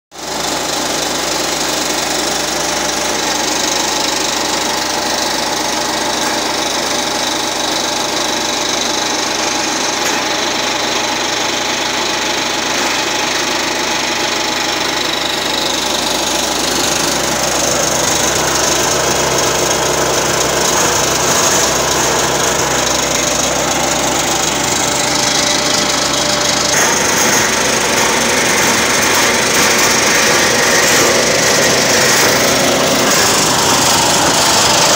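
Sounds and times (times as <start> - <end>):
petrol engine running: 0.1 - 34.9.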